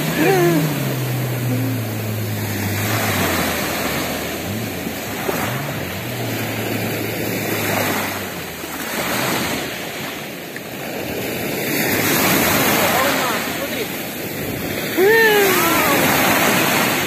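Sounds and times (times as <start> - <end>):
distant jet ski engine droning: 0.0 - 17.0
waves washing over pebbles: 0.0 - 17.0.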